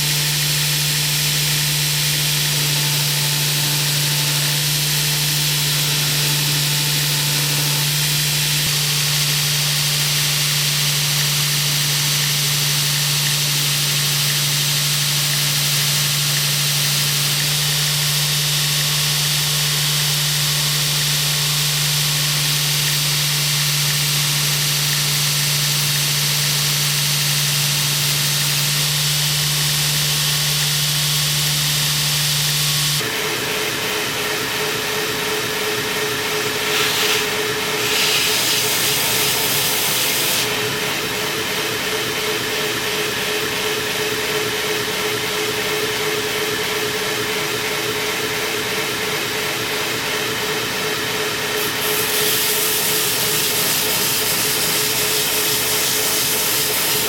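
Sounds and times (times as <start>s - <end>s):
electric sander running: 0.0s - 44.6s, 49.9s - 57.0s
higher-pitched machine hum: 0.0s - 57.0s.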